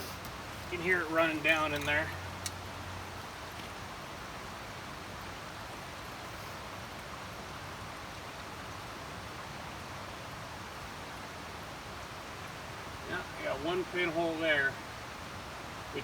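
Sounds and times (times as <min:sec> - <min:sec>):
water trickling inside steel drum: 0:00.0 - 0:16.0.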